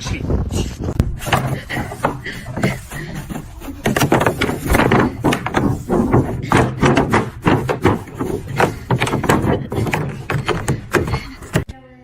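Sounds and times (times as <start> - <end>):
knocking and clattering: 1.0 - 11.7
rubbing: 1.0 - 11.7.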